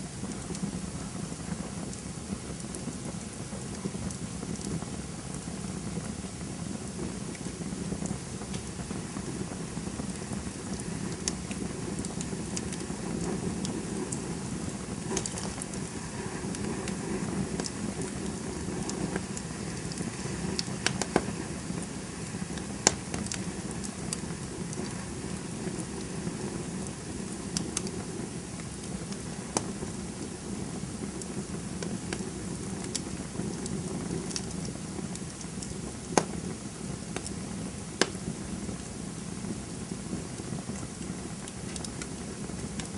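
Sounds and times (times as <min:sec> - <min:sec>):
burning wood crackling and popping: 0:00.0 - 0:42.9
fire flames rushing: 0:00.0 - 0:42.9.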